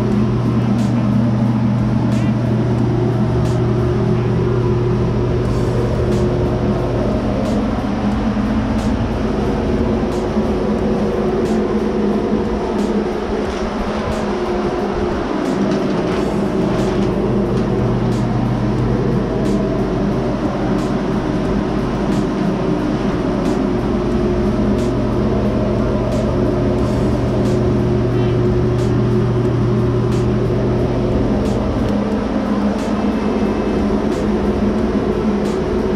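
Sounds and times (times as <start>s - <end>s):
electric blower drone: 0.0s - 35.9s.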